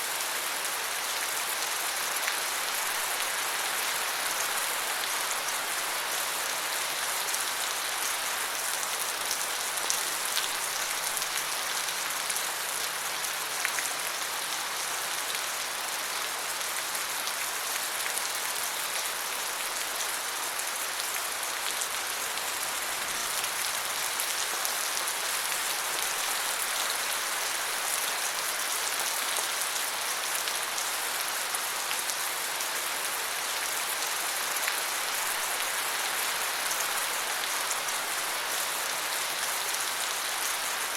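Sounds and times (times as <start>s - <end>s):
rain falling on foliage: 0.0s - 40.9s.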